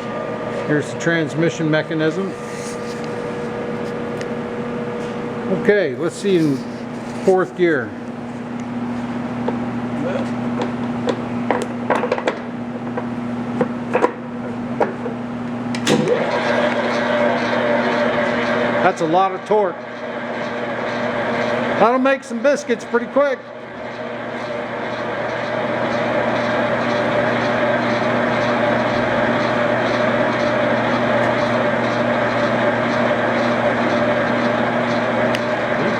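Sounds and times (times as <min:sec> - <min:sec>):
mixer motor whine: 0:00.0 - 0:35.9
steady hum: 0:00.0 - 0:35.9.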